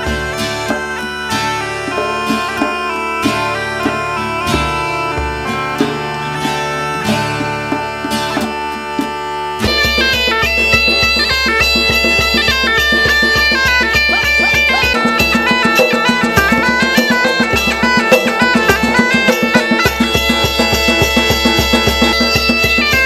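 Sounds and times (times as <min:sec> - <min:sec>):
bagpipe melody over drone: 0:00.0 - 0:23.0
plucked string instrument: 0:00.0 - 0:23.0
steady drum beat: 0:00.0 - 0:23.0.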